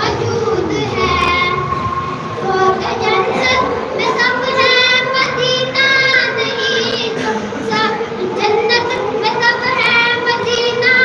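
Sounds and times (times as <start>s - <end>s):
boy chanting melodically: 0.0s - 11.0s.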